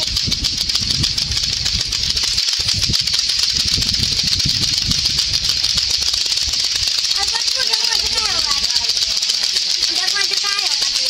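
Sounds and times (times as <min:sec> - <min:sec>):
clackers clacking: 0:00.0 - 0:11.0.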